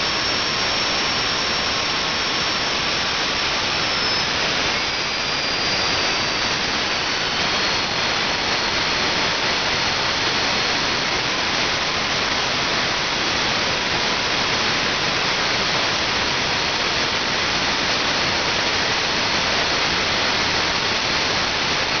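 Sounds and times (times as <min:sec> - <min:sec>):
gas turbine engine roaring: 0:00.0 - 0:22.0.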